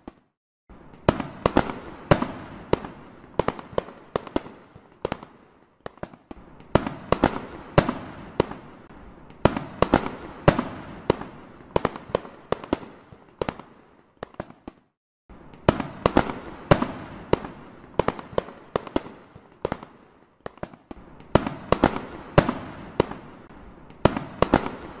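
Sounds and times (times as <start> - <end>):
fireworks banging: 0.0 - 25.0.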